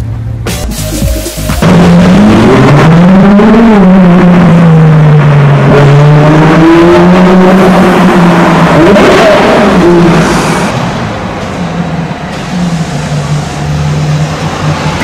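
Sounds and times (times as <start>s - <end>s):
sports car engine revving: 0.8s - 15.0s.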